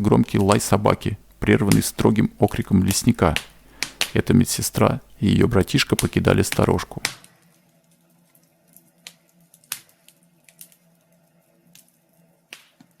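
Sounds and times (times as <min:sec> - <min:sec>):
faint steady hum: 0:00.0 - 0:13.0
wood fire crackling: 0:00.0 - 0:13.0.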